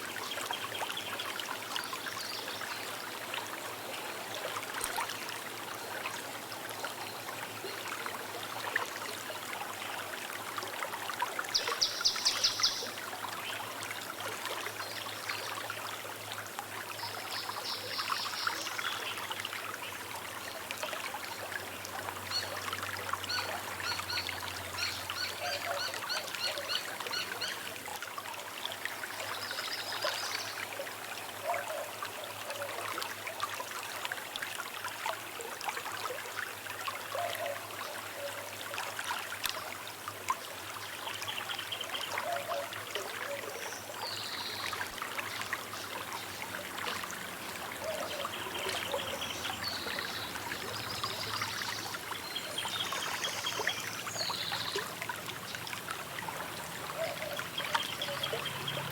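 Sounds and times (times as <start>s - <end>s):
small river trickling: 0.0s - 58.9s.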